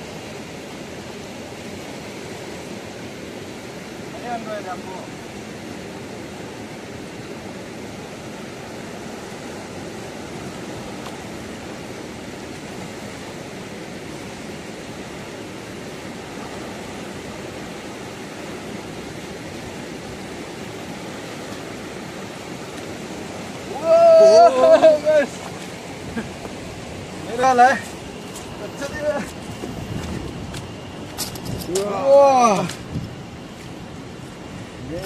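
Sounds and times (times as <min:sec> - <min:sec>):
fast-flowing river water: 0:00.0 - 0:35.0.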